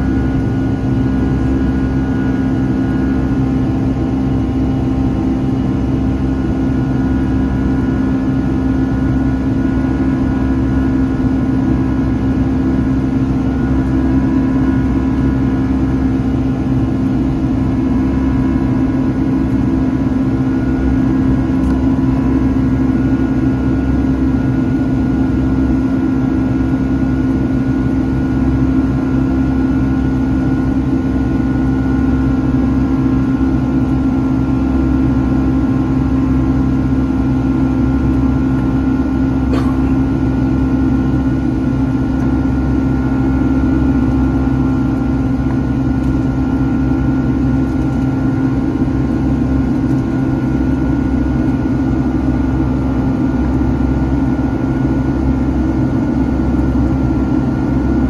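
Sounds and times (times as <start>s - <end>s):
high engine whine: 0.0s - 58.0s
jet engine drone in cabin: 0.0s - 58.0s.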